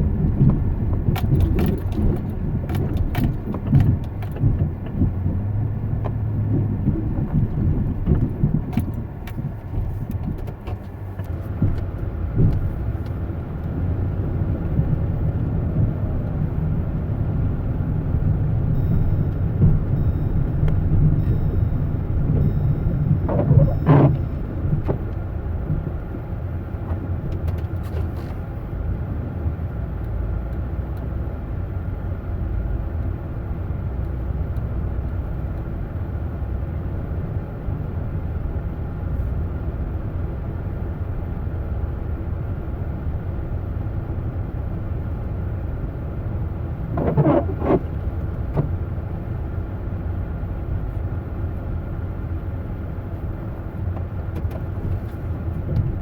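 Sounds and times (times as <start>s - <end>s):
low rumble of motor vehicle: 0.0s - 56.0s.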